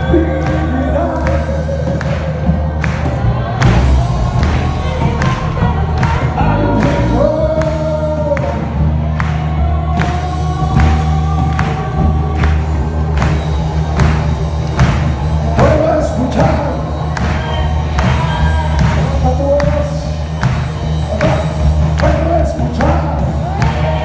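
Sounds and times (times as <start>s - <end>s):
song with sung voices: 0.0s - 24.0s
steady beat: 0.0s - 24.0s.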